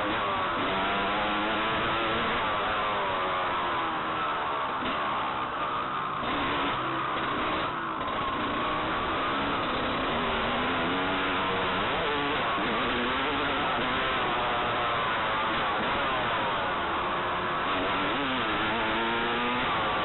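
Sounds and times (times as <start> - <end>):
motocross bike engine revving: 0.0 - 20.0.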